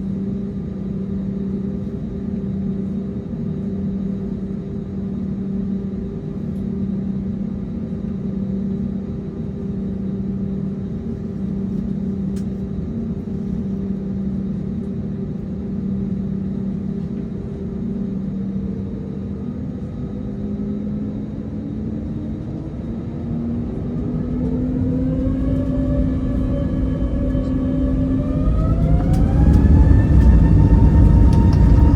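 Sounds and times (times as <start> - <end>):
jet engines heard from cabin: 0.0 - 31.9.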